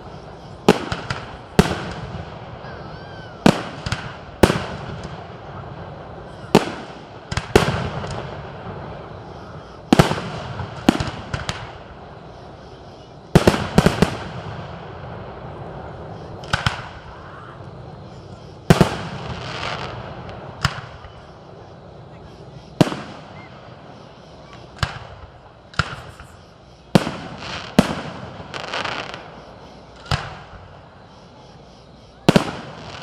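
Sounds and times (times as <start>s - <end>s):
crowd murmur: 0.0s - 33.0s
fireworks bangs: 0.0s - 33.0s.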